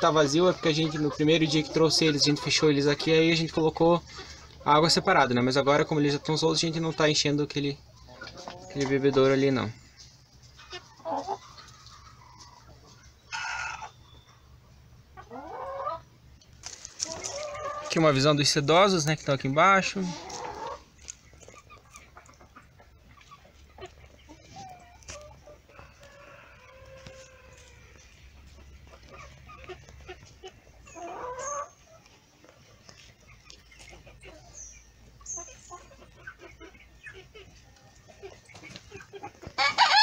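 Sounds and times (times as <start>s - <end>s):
chickens squawking: 0.0s - 40.0s.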